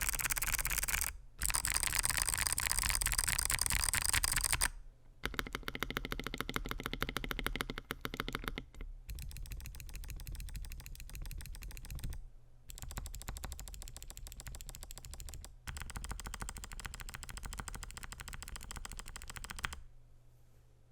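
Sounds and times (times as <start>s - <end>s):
fast typing on mechanical keyboard: 0.0s - 19.8s.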